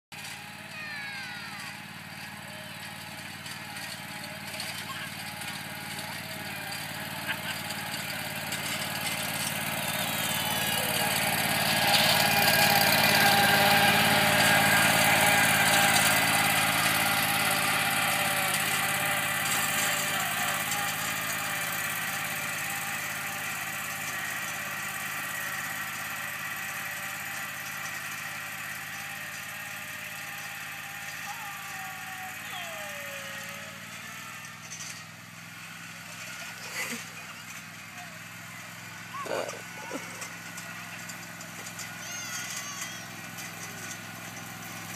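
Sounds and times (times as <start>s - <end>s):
riding mower engine passing: 0.1s - 44.9s.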